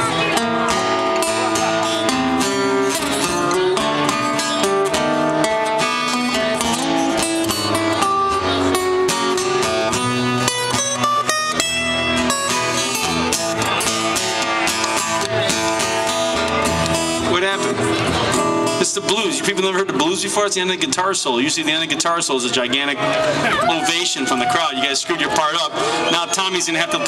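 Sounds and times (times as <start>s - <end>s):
blues guitar solo: 0.0s - 19.1s, 22.8s - 27.0s
strummed rhythm guitar: 0.0s - 27.0s.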